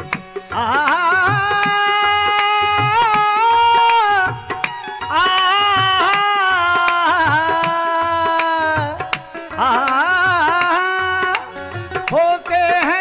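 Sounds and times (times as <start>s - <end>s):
hand drum beat: 0.0s - 13.0s.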